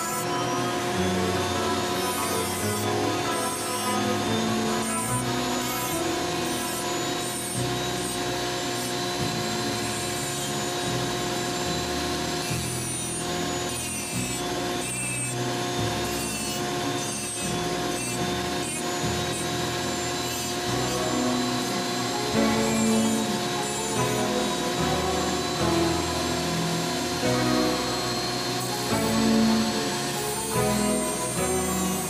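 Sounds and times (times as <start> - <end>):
burr rasping wood: 0.0 - 32.0
rotary tool motor whine: 0.0 - 32.0.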